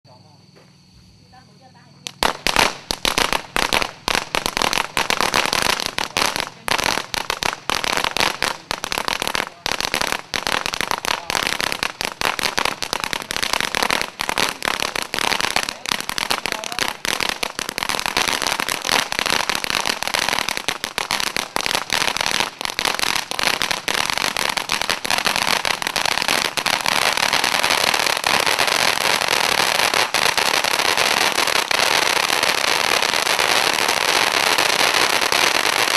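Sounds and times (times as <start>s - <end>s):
firework crackling: 1.6s - 35.9s
firework fountain rushing spray: 2.1s - 35.9s.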